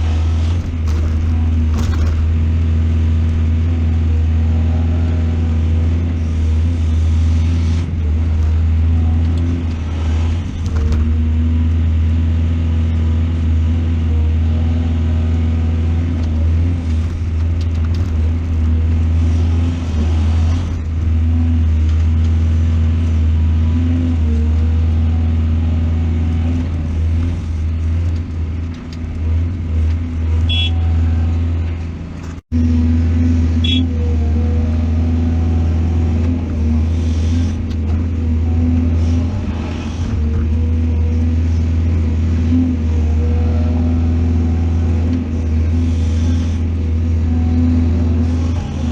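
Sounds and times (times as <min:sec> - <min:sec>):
excavator diesel engine humming: 0:00.0 - 0:48.9.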